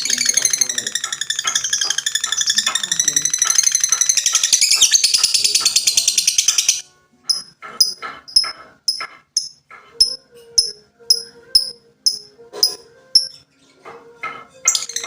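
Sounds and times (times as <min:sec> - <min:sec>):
lovebird chirping: 0:00.0 - 0:13.8, 0:14.6 - 0:15.0
lower bird chatter: 0:00.0 - 0:15.0.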